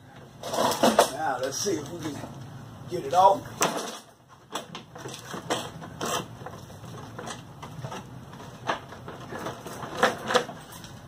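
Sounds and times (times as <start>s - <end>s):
low steady hum: 0.0s - 11.0s
clicks and knocks of mower parts: 0.2s - 2.0s, 3.5s - 11.0s.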